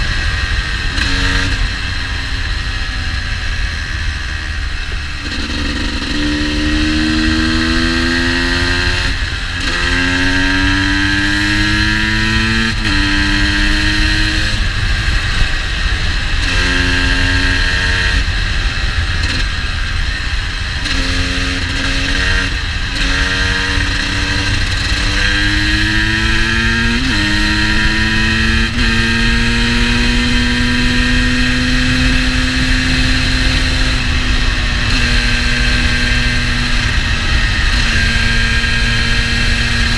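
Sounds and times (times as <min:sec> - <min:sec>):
two-stroke engine revving: 0:00.0 - 0:02.1, 0:05.0 - 0:19.8, 0:20.5 - 0:39.9.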